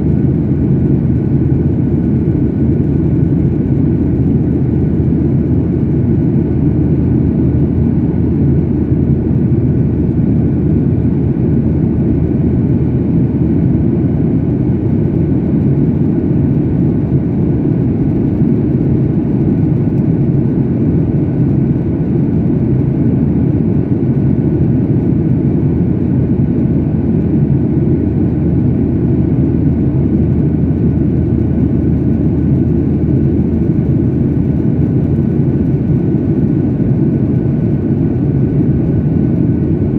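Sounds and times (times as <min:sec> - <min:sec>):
faint steady whine: 0:00.0 - 0:39.9
jet engines and airflow rushing: 0:00.0 - 0:39.9.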